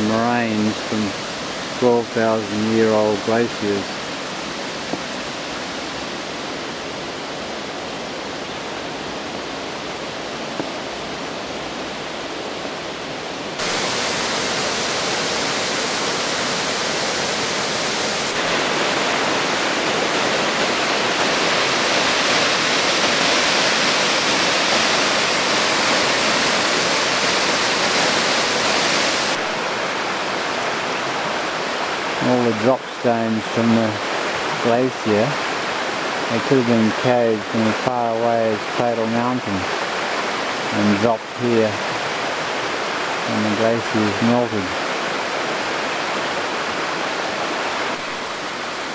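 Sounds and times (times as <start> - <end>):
water rushing over rocks: 0.0 - 48.9.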